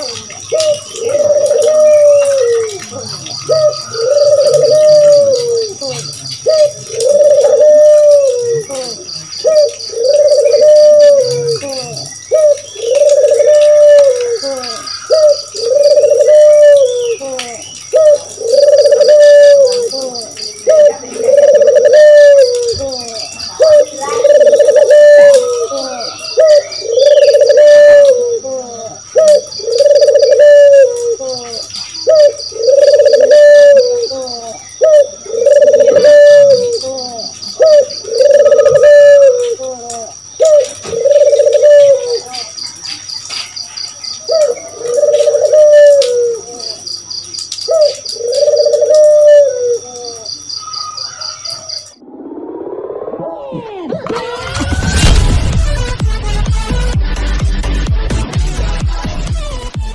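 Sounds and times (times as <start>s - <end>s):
doves cooing: 0.0s - 55.2s
cricket trilling: 0.0s - 56.0s.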